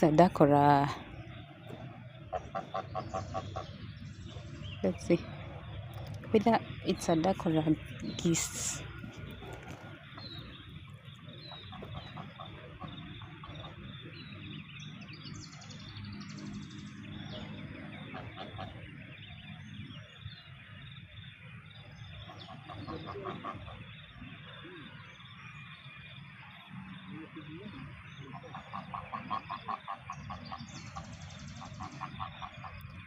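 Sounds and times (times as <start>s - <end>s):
birds calling and chirping: 0.0s - 33.0s
steady outdoor din: 0.0s - 33.0s.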